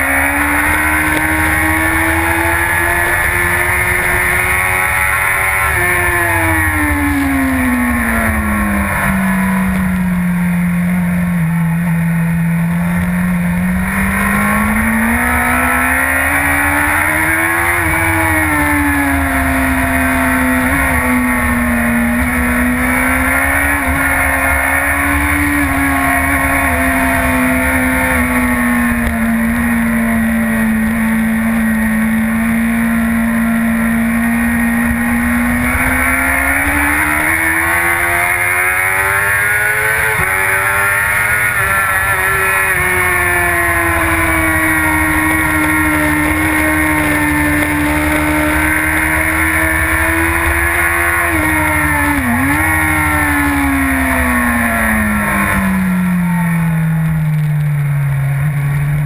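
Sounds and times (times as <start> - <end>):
motorcycle engine at speed: 0.0 - 59.0.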